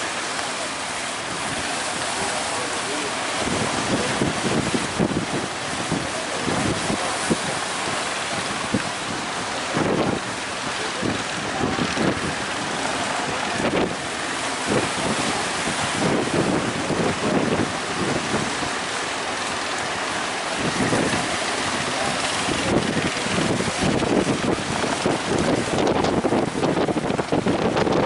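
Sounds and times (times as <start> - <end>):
sea surf rushing: 0.0 - 28.0
wind buffeting microphone: 0.0 - 28.0.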